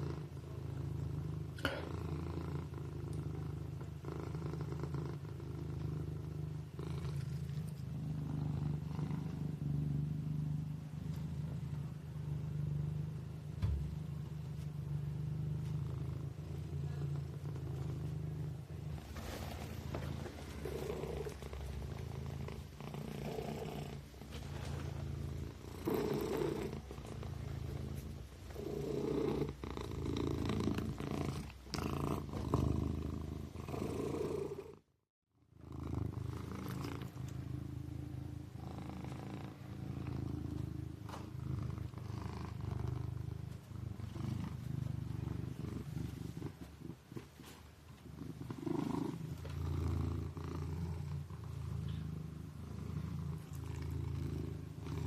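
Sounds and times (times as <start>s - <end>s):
kitten purring: 0.0s - 34.9s, 35.5s - 55.0s.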